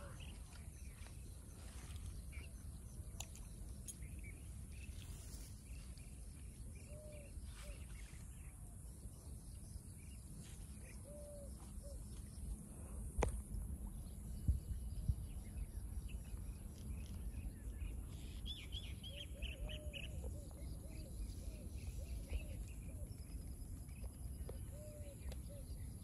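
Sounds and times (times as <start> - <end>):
bird chirping: 0.0 - 12.6, 13.9 - 26.0.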